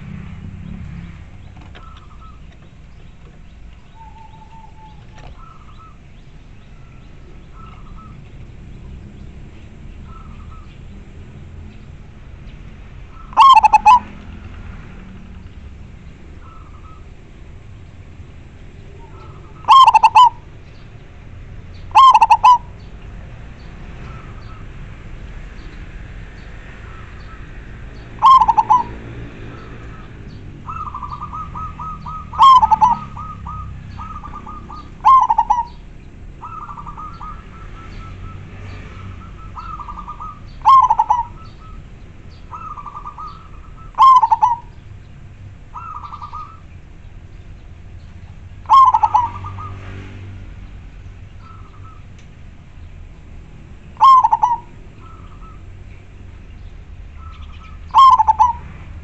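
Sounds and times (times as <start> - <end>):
dove singing: 0.0 - 59.0.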